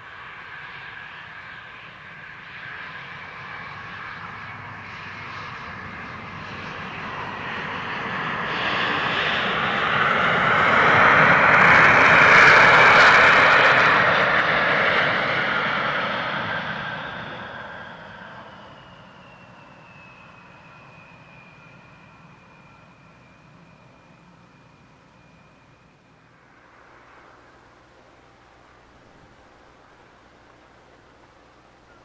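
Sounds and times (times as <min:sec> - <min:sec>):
jet engines reverse thrust: 0:00.0 - 0:32.0.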